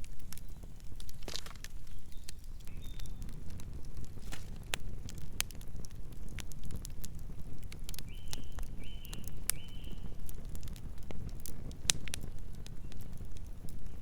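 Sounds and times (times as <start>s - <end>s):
campfire crackling and popping: 0.0s - 14.0s
fire rumbling: 0.0s - 14.0s.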